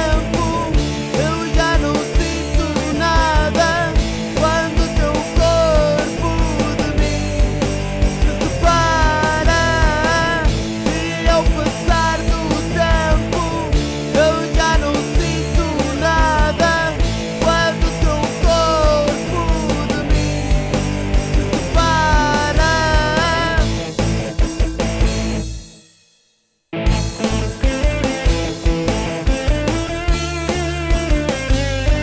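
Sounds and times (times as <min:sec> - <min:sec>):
pitch-bending lead melody: 0:00.0 - 0:25.5, 0:26.8 - 0:32.0
bass and guitars: 0:00.0 - 0:25.8, 0:26.7 - 0:32.0
drum beat: 0:00.0 - 0:25.8, 0:26.8 - 0:32.0.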